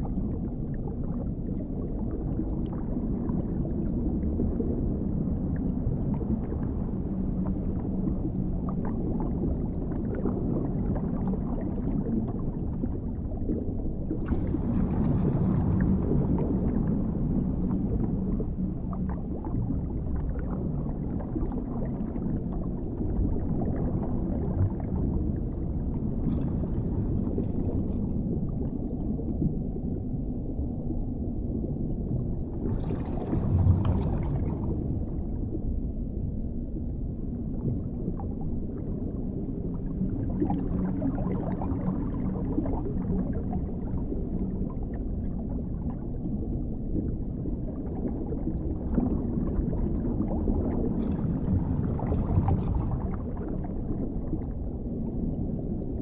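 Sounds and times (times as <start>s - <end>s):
muffled underwater rumble: 0.0s - 56.0s.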